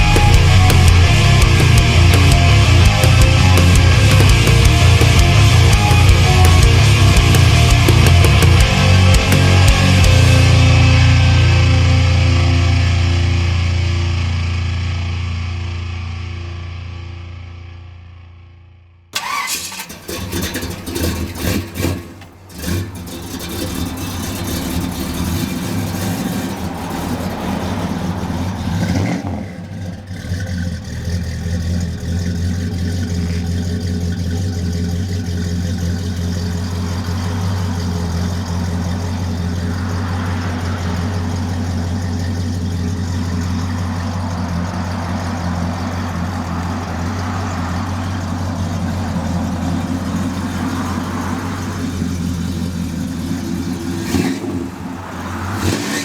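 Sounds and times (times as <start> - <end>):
car engine starting and revving: 0.0 - 18.4, 19.2 - 56.0.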